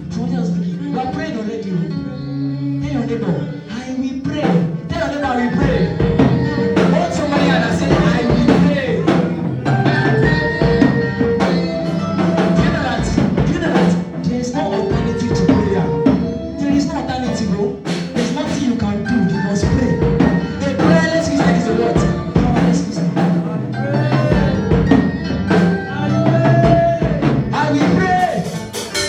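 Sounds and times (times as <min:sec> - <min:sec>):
gospel worship music: 0:00.0 - 0:29.0
singing: 0:00.9 - 0:16.0, 0:18.1 - 0:28.6
drums and percussion beat: 0:04.3 - 0:29.0.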